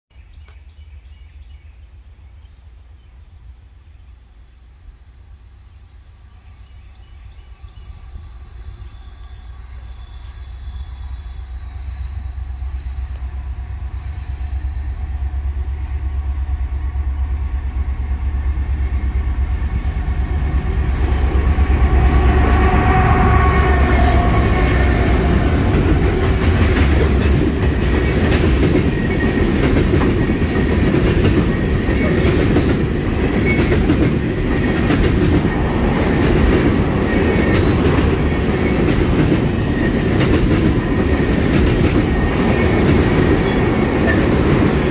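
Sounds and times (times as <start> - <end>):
diesel locomotive engine rumble: 0.2 - 44.9
train wheels rumbling and clicking: 6.0 - 44.9.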